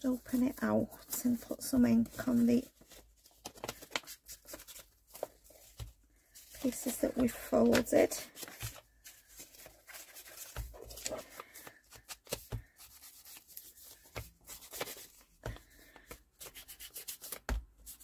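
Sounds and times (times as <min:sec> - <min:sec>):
paper handling: 0:00.2 - 0:18.0.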